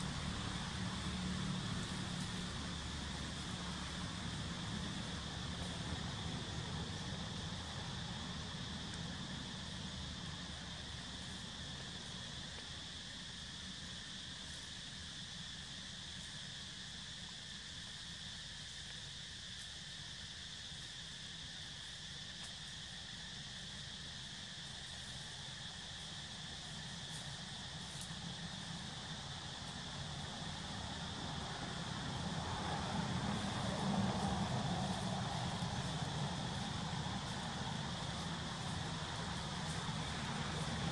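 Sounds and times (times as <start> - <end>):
low background rumble: 0.0 - 16.4, 22.9 - 40.9
insects droning: 0.0 - 40.9.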